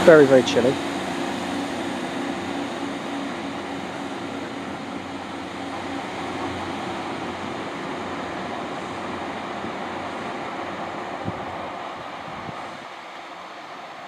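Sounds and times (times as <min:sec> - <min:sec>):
diesel train engine drone: 0:00.0 - 0:14.0.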